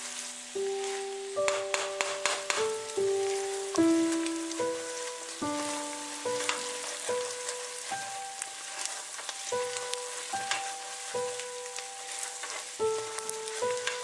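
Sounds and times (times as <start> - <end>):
background music melody: 0.0 - 14.0
onions sizzling in butter: 0.0 - 14.0.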